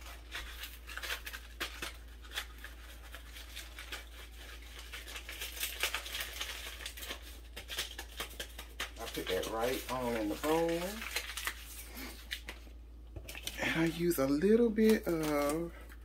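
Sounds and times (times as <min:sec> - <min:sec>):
paper packet crinkling: 0:00.0 - 0:16.0.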